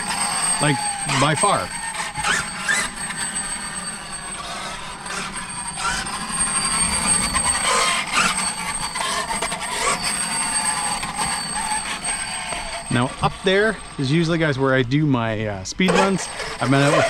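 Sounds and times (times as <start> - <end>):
electric motor whine: 0.0 - 17.0
tyres on rough ground: 0.0 - 17.0.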